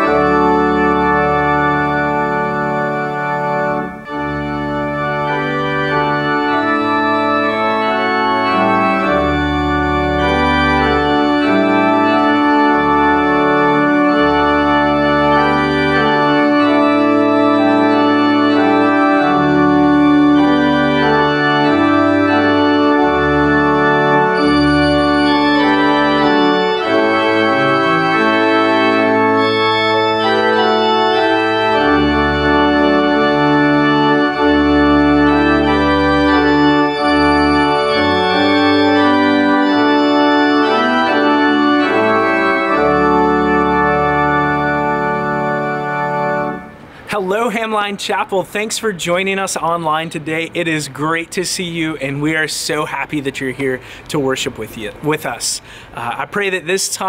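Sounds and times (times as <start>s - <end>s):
pipe organ chords: 0.0s - 54.1s.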